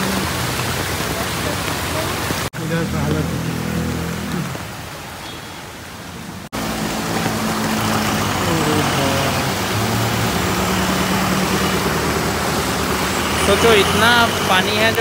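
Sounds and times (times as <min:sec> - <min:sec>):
vehicle engine noise: 0:00.0 - 0:15.0
water splashing from wheels: 0:00.0 - 0:15.0.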